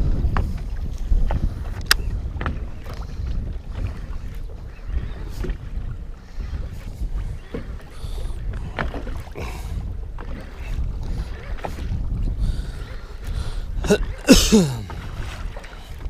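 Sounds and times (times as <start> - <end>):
waves slapping boat hull: 0.0 - 16.0
wind buffeting microphone: 0.0 - 16.0.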